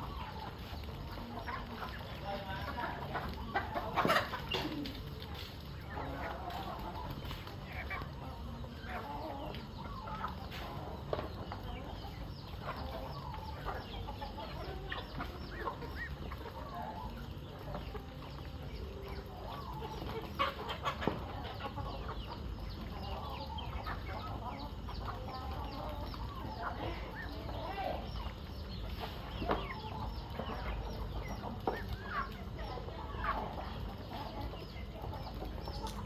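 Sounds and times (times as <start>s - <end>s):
chickens clucking: 0.0s - 36.0s.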